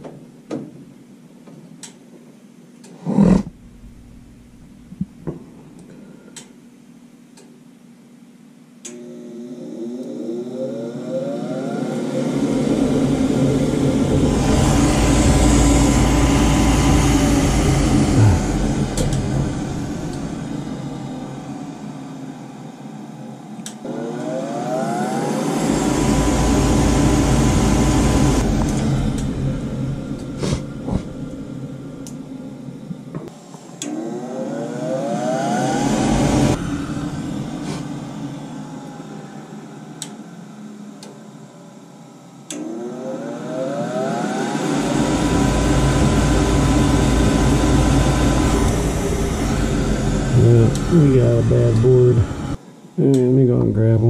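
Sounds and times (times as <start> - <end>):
furnace inducer motor whining: 8.8 - 54.0.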